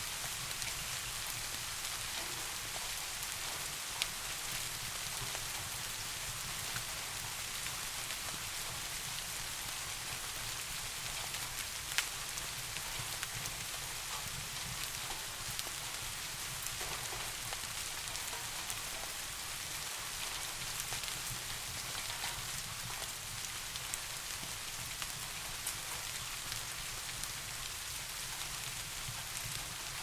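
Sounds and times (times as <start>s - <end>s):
soft rain falling: 0.0s - 30.0s.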